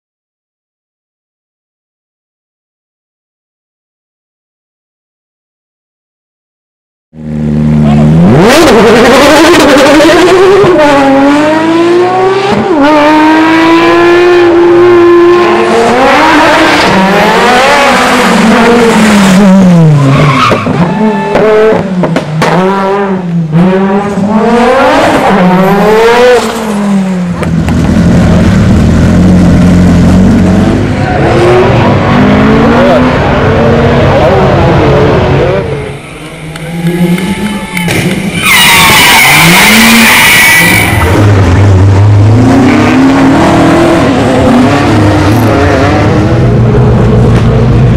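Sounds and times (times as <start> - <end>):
rally car engine revving: 7.2 - 47.9.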